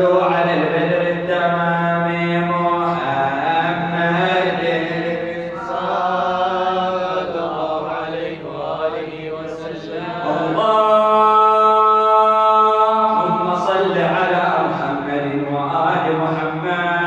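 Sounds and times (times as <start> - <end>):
man chanting devotional refrain: 0.0 - 17.0.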